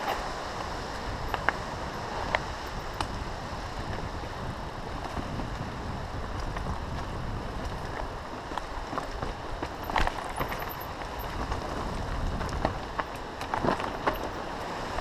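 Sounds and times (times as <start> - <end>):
tyre rumble on dirt trail: 0.0 - 15.0
wind: 0.0 - 15.0.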